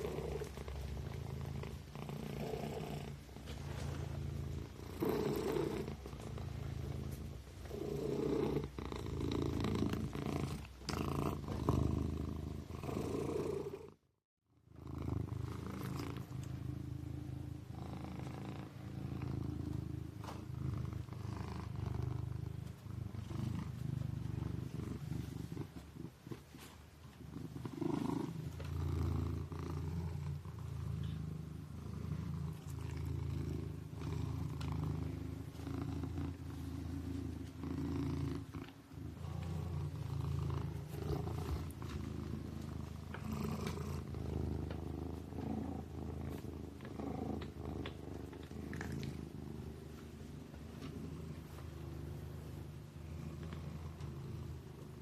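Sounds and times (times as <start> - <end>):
kitten purring: 0.0 - 55.0.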